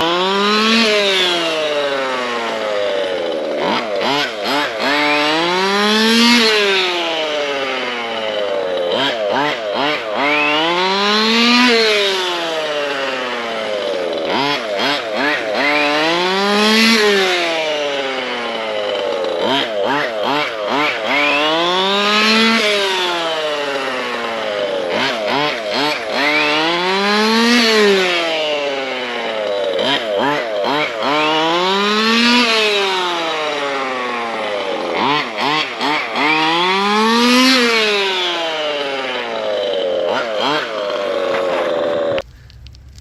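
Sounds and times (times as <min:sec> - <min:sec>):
two-stroke engine revving: 0:00.0 - 0:43.0.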